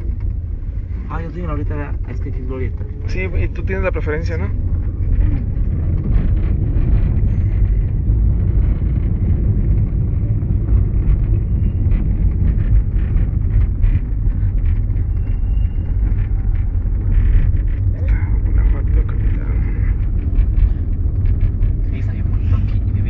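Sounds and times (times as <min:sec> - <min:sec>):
car engine rumble from inside: 0:00.0 - 0:23.0.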